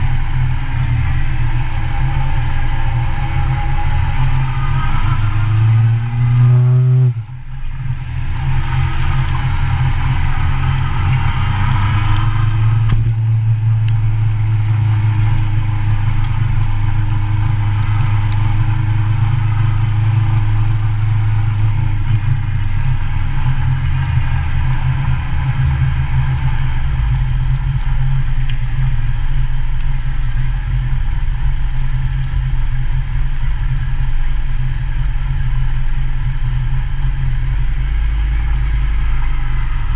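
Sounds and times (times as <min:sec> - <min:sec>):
motorcycle engine rumbling: 0:00.0 - 0:34.9.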